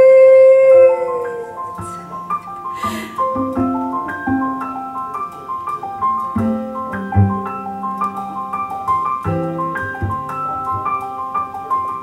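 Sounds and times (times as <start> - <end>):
piano melody over loudspeakers: 0.0 - 12.0.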